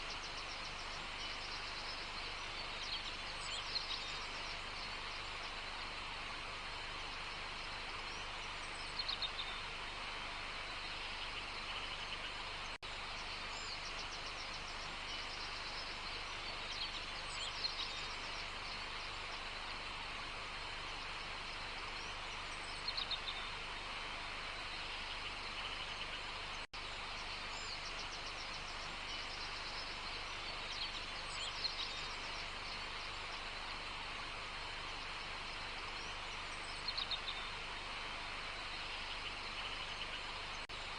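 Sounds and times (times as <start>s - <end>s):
birds chirping: 0.0s - 40.9s
steady background hiss: 0.0s - 40.9s.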